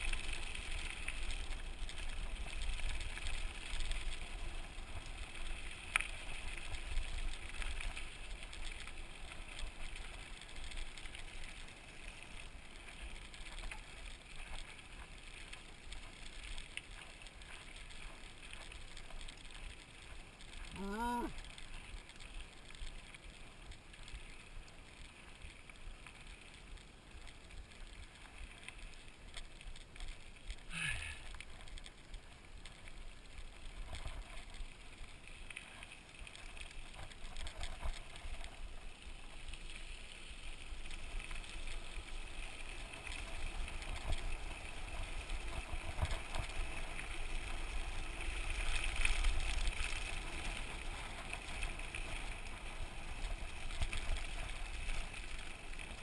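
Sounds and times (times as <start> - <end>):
bike tyre and drivetrain noise: 0.0 - 56.0.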